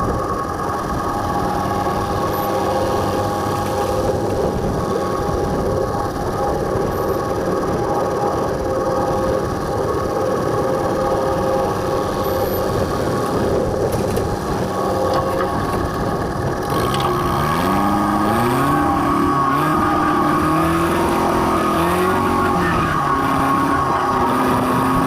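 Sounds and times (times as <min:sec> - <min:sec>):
farm machine engine running: 0:00.0 - 0:25.0.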